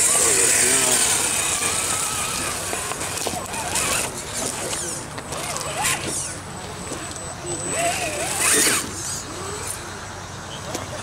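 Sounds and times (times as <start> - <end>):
high electric motor whine: 0.0 - 10.3.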